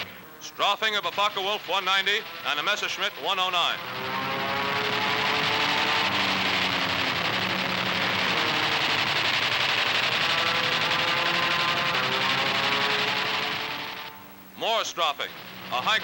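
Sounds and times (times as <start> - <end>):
propeller plane engine drone: 0.0 - 16.0
machine-gun fire: 1.1 - 14.3.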